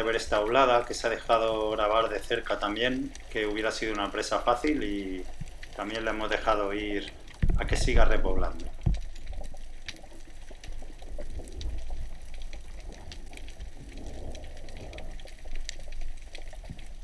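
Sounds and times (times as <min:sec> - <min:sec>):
faint underwater clicks and crackles: 0:00.0 - 0:17.0
muffled underwater rush: 0:00.0 - 0:17.0.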